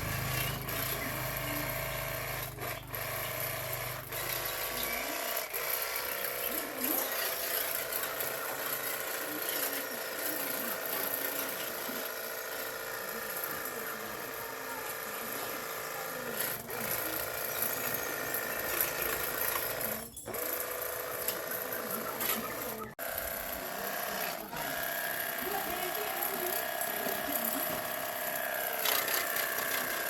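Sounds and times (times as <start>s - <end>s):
small machine humming: 0.0s - 30.0s.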